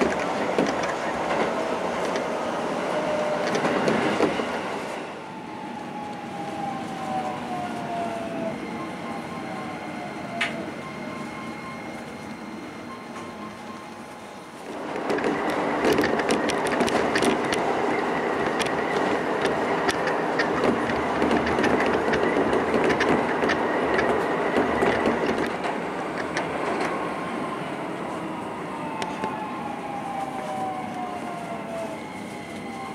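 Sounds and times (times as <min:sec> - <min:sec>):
train wheel-on-rail rumble: 0:00.0 - 0:32.9.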